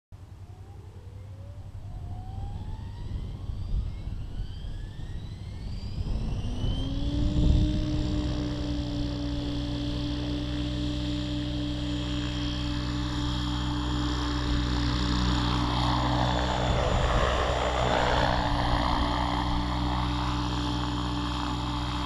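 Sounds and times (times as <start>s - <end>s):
rc helicopter whine: 0.2s - 22.0s
wind buffeting microphone: 2.0s - 10.6s, 12.6s - 22.0s.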